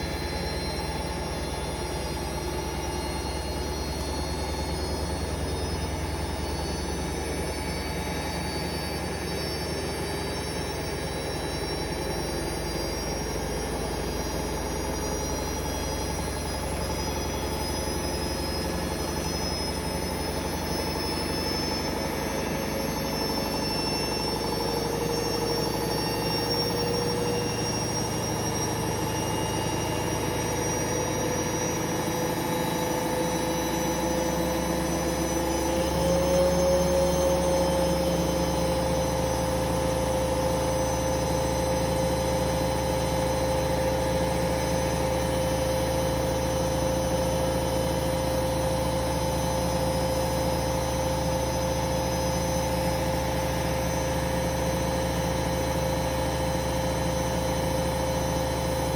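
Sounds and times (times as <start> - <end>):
washing machine spinning: 0.0 - 58.9.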